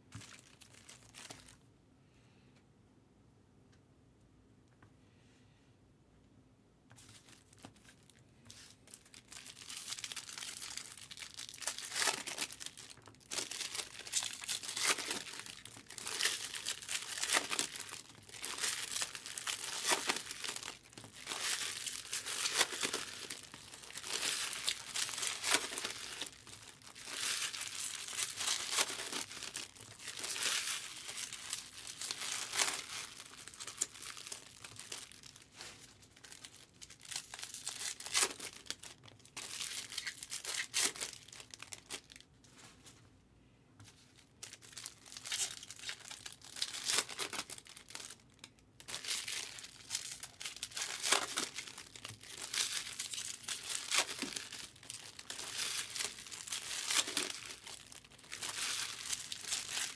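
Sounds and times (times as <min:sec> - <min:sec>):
foil wrappers crinkling and tearing: 0:07.1 - 0:42.2, 0:44.4 - 0:59.9.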